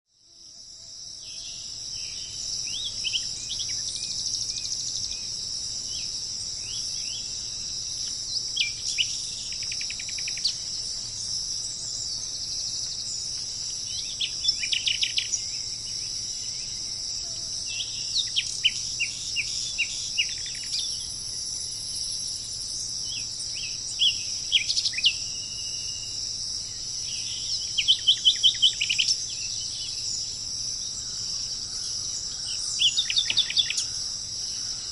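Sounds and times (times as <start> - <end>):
insects chorus: 0.1 - 34.9
songbirds singing: 0.4 - 34.9.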